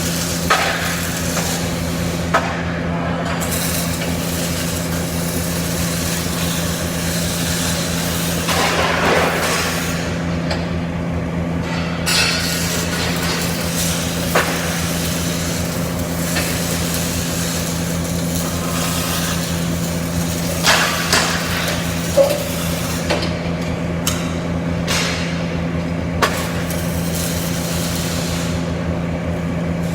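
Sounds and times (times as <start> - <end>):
welding crackling hiss: 0.0 - 2.7, 3.3 - 10.4, 12.1 - 23.3, 24.0 - 29.9
welding machine hum: 0.0 - 29.9.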